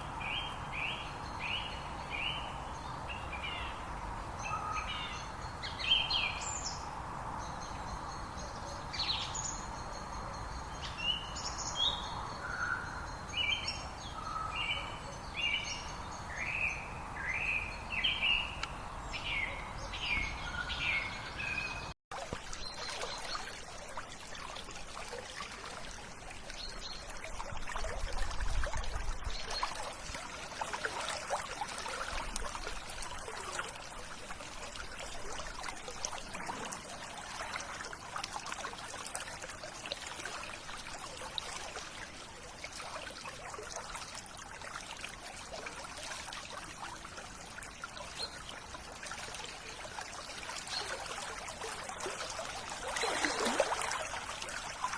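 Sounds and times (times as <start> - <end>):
river water trickling: 0.0 - 54.9.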